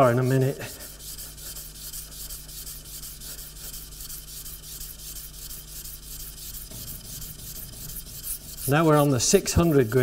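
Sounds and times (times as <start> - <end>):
chisel scratching on abrasive paper: 0.0 - 10.0.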